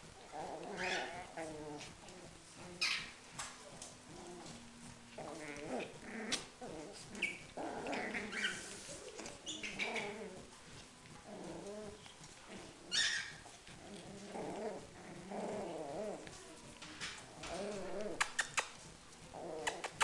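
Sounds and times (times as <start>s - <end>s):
puppies growling: 0.0s - 20.0s.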